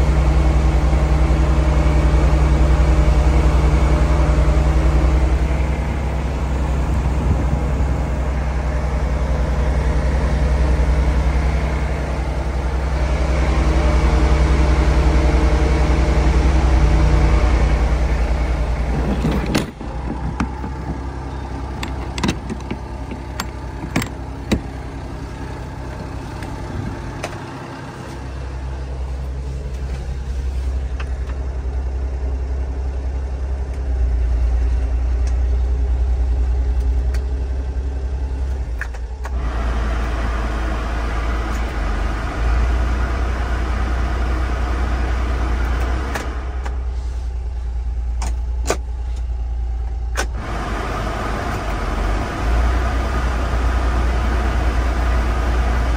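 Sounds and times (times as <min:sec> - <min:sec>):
small engine idling: 0:00.0 - 0:55.9.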